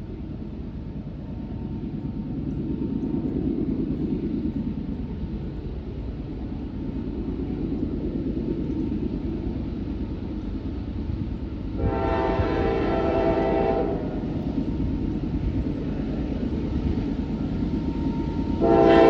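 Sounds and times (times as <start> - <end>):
diesel freight train rumble: 0.0 - 19.0.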